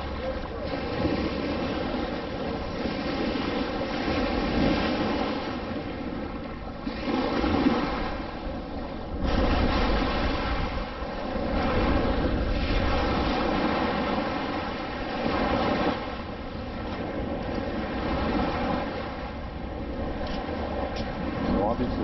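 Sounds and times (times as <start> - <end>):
shallow surf washing: 0.0 - 22.0
wind buffeting microphone: 0.0 - 22.0.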